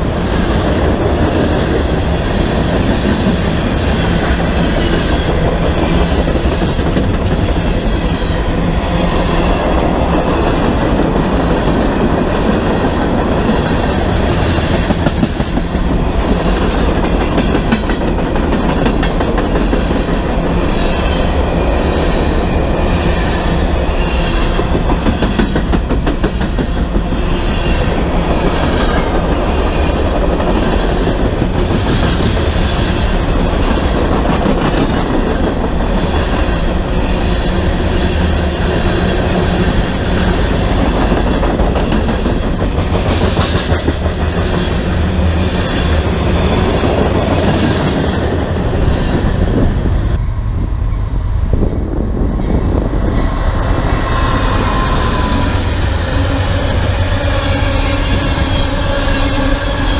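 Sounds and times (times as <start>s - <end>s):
freight train rumbling on rails: 0.0s - 59.9s.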